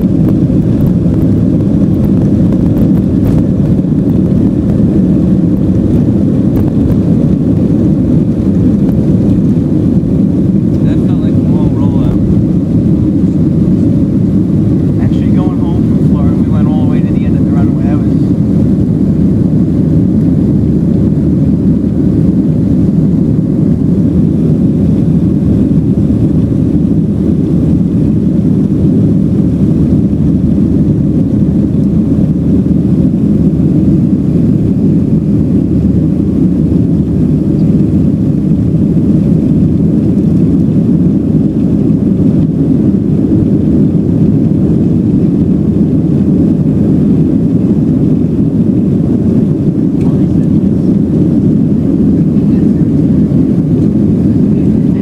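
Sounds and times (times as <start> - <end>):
airplane cabin engine roar: 0.0 - 55.0.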